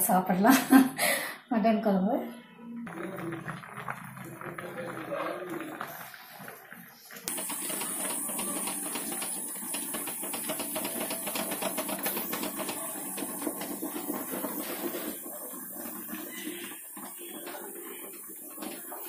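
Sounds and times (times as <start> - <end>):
pressure cooker whistling: 2.9 - 19.0.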